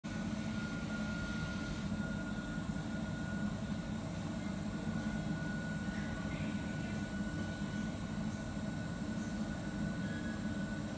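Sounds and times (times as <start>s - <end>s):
kitchen machinery humming: 0.0s - 10.9s
thin steady whine: 0.0s - 10.9s.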